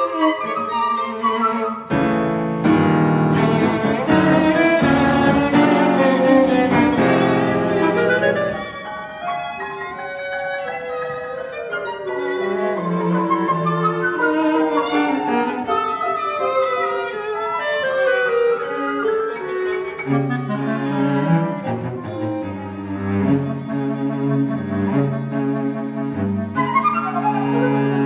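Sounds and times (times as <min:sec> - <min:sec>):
chamber ensemble playing: 0:00.0 - 0:28.0.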